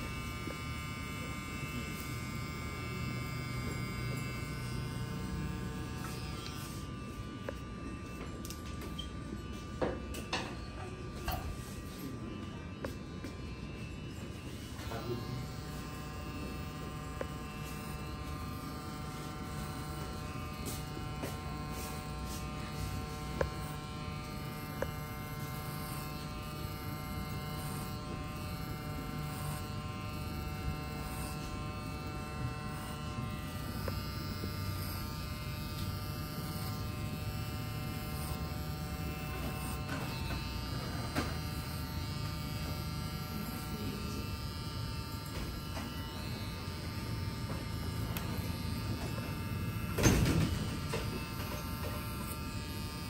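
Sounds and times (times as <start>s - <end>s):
electric hair clippers buzzing: 0.0s - 53.0s.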